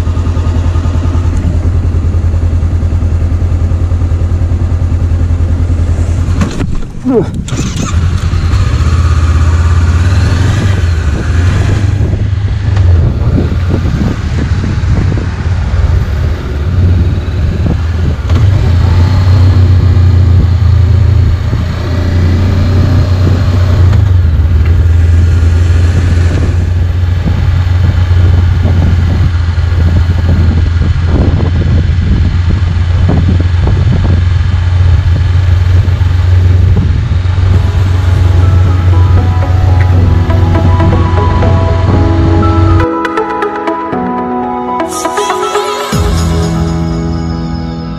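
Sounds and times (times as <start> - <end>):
motorcycle engine running: 0.0 - 42.8
wind rumble: 0.0 - 42.9.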